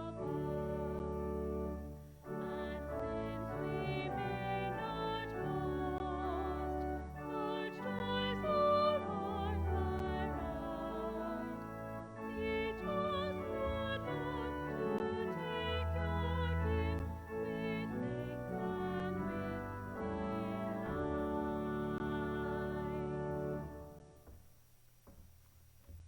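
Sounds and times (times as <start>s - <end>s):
person singing with vibrato: 0.0s - 1.2s, 2.2s - 23.7s.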